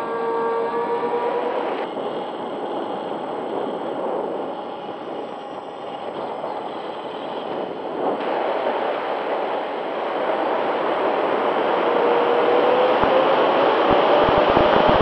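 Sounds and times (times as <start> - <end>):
electric motors droning: 0.0 - 15.0
wind rushing over camera: 0.0 - 15.0.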